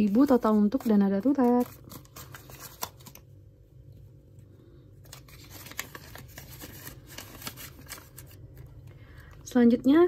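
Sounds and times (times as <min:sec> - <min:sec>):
banknotes rustling and crinkling: 0:00.0 - 0:03.6, 0:04.9 - 0:09.5.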